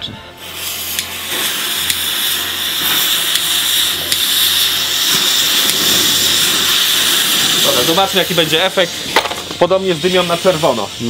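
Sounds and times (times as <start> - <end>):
smoke flares hissing: 0.0 - 11.0.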